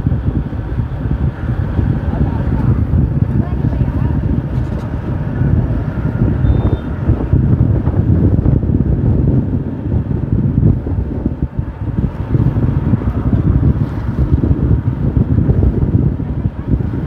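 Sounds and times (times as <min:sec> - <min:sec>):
motorcycle engine at low speed: 0:00.0 - 0:17.0
wind buffeting microphone: 0:00.0 - 0:17.0.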